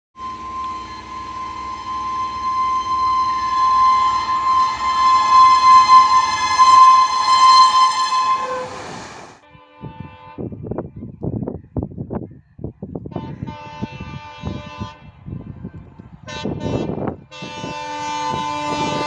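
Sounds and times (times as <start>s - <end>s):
locomotive horn blast: 0.2s - 10.5s, 13.1s - 15.4s, 16.3s - 19.0s.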